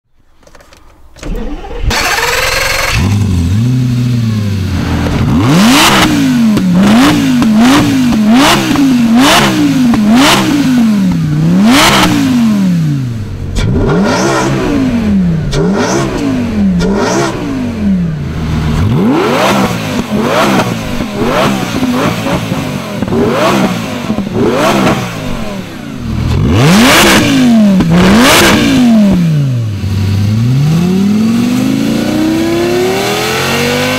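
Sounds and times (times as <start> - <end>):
car engine revving: 1.5 - 33.9.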